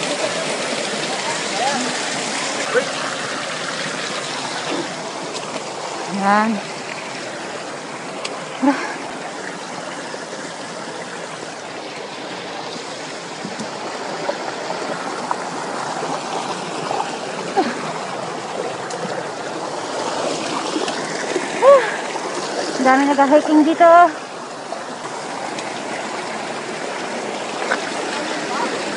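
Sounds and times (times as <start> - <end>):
stream rushing over boulders: 0.0 - 28.9.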